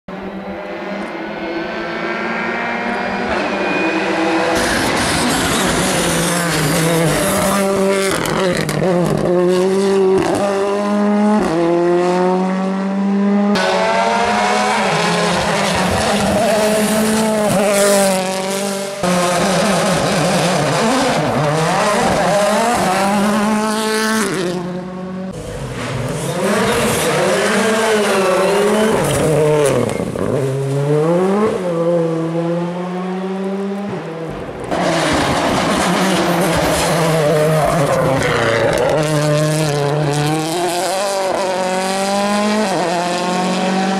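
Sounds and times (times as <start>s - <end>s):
rally car engines revving: 0.1s - 43.9s.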